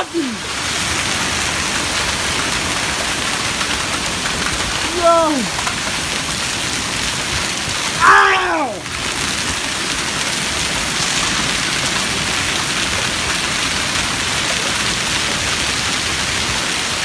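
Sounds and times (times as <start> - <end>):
heavy hail pelting: 0.0 - 17.0
rain: 0.0 - 17.0.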